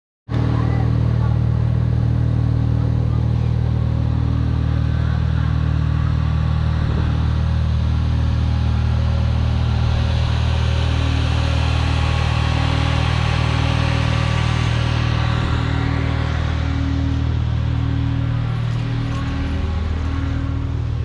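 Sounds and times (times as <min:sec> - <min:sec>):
engine running steadily: 0:00.3 - 0:21.0.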